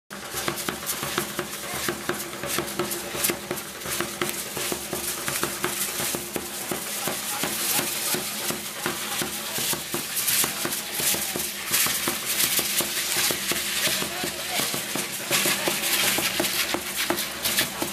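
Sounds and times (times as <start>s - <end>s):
bass drum beating: 0.2s - 17.9s.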